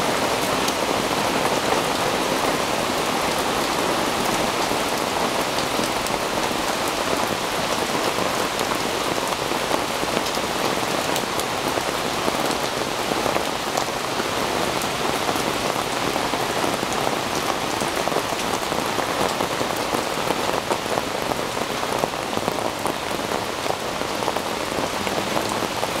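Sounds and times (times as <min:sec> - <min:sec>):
rain on wooden deck and trees: 0:00.0 - 0:26.0.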